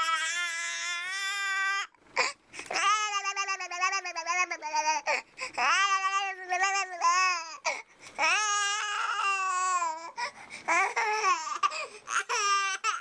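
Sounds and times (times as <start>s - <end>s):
baby crying: 0.0s - 13.0s.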